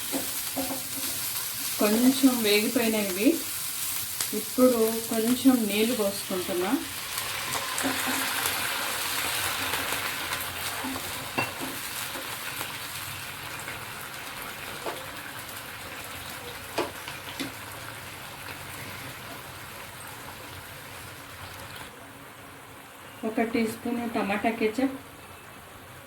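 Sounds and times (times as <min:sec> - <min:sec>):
vegetables sizzling in a pan: 0:00.0 - 0:21.9.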